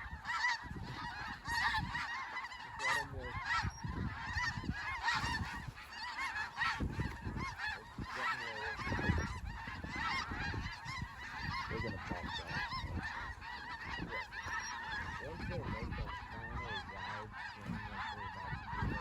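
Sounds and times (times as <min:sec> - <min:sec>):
geese honking: 0:00.0 - 0:19.0.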